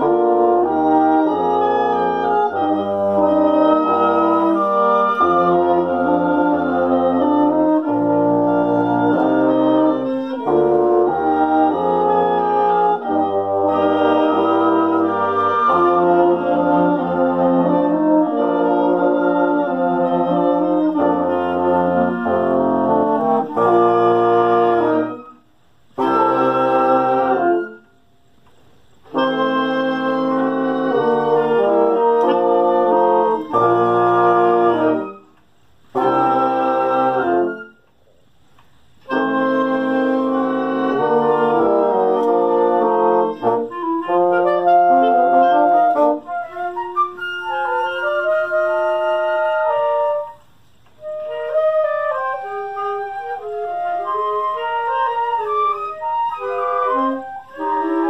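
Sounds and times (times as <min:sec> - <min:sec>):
wind ensemble playing classical piece: 0:00.0 - 0:38.0, 0:38.6 - 0:58.0.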